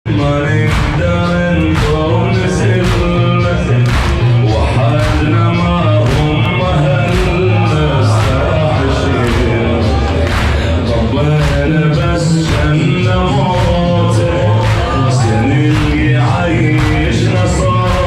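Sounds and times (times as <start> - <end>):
man chanting a lament: 0.1 - 18.0
rhythmic strokes: 0.1 - 18.0.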